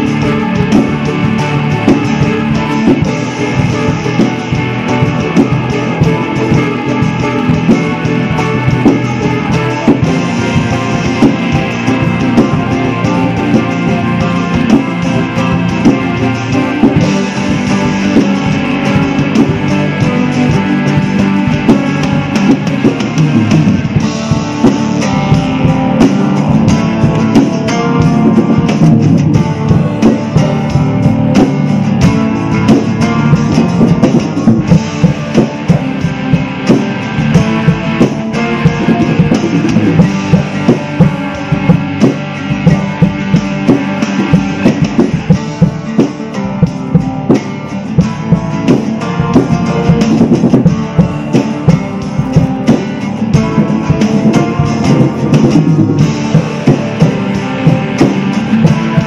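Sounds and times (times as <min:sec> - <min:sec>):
drum kit playing: 0:00.0 - 0:59.0
rock backing track electric guitar: 0:00.0 - 0:59.0.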